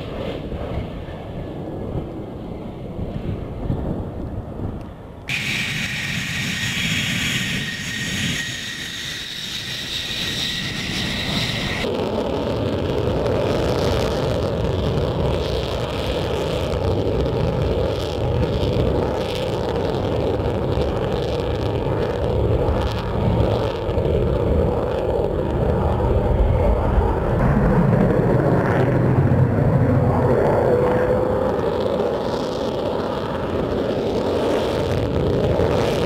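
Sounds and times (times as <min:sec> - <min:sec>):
jet engine rumble: 0:00.0 - 0:36.0
jet engine whine: 0:00.0 - 0:36.0.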